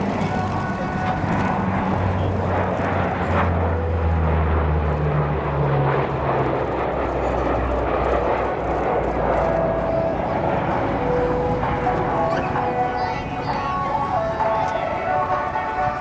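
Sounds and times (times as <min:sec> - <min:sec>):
turboprop aircraft drone: 0:00.0 - 0:16.0.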